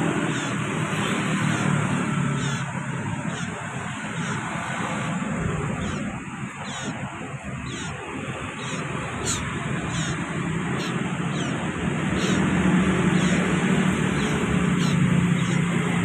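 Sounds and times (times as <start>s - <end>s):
bird chirping: 0.0s - 16.0s
low engine drone: 0.0s - 16.0s.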